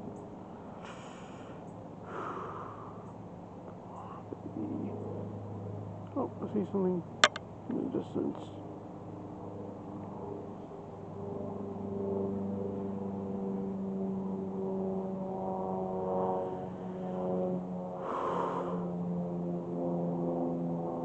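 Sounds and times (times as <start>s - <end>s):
engine drone: 0.0s - 8.8s, 10.6s - 21.0s.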